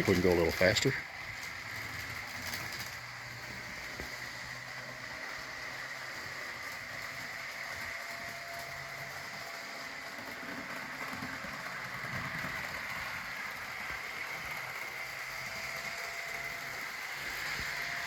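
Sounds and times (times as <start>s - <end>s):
model train motor whirring: 0.0s - 18.0s
wheels rolling on rails: 0.0s - 18.0s.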